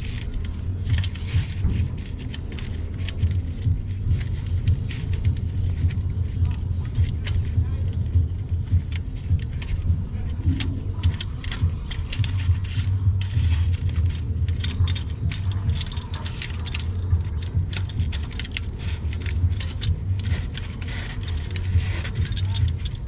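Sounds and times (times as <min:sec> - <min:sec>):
steady low hum: 0:00.0 - 0:23.0
wrench clicking on metal: 0:00.0 - 0:23.0.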